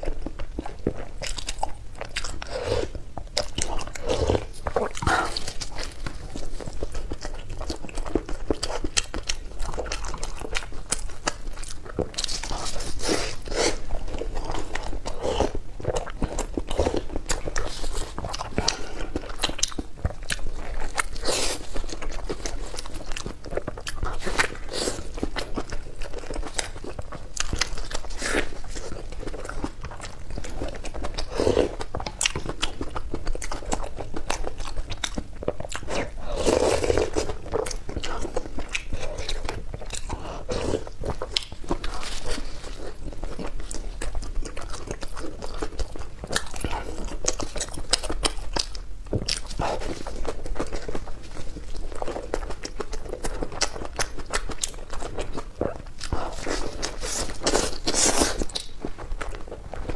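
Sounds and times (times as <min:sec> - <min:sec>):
close-miked chewing: 0:00.0 - 0:59.9.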